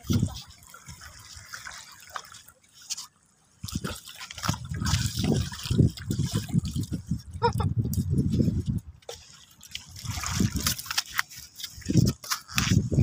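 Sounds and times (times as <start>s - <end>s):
water lapping among rocks: 0.0s - 13.0s.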